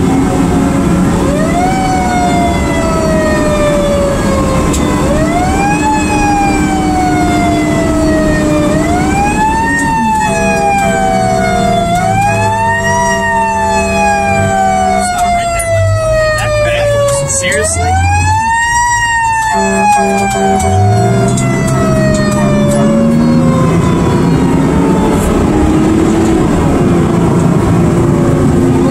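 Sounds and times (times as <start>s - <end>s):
fire engine siren wailing: 0.0s - 28.9s
truck engine running: 0.0s - 28.9s.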